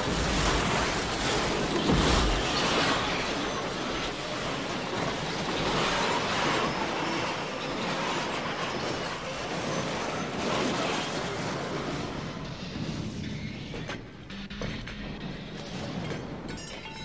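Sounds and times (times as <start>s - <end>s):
airliner crash rushing and rumbling: 0.0s - 17.0s.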